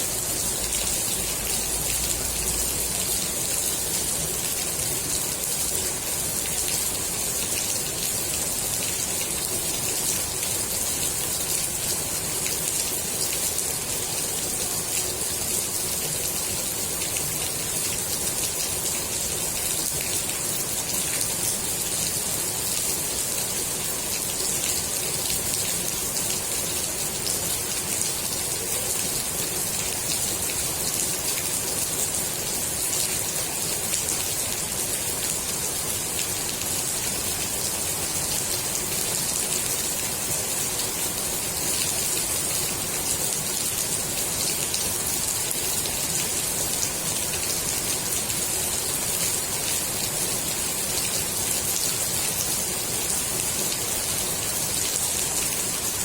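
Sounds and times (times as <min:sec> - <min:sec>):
rain falling on pool water: 0:00.0 - 0:56.0.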